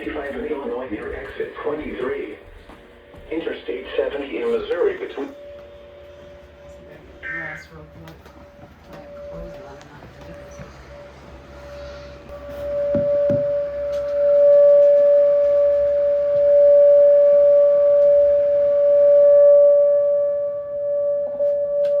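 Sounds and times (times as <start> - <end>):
tornado warning siren: 3.3 - 22.0.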